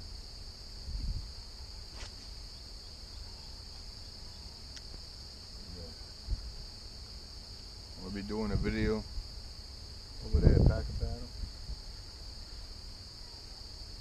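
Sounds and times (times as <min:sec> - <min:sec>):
insect chorus droning: 0:00.0 - 0:14.0.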